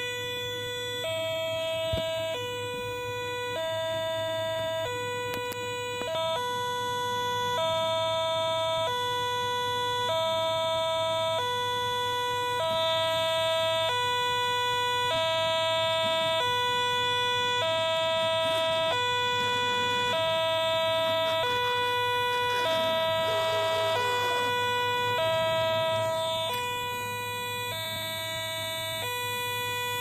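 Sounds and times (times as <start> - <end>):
steady high tone: 0.0 - 11.4, 13.0 - 30.0
two-tone level crossing alarm: 0.0 - 30.0.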